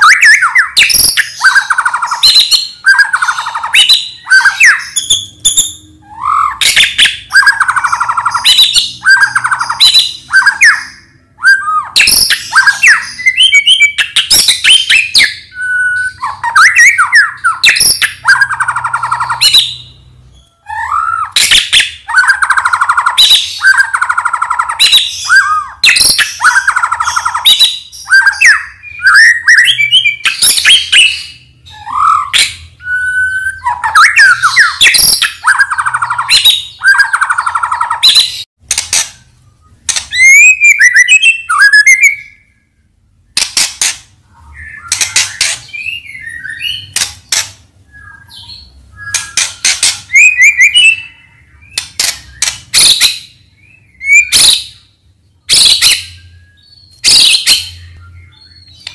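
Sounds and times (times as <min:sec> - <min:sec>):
bird singing: 0:00.0 - 0:43.6, 0:44.2 - 0:58.9.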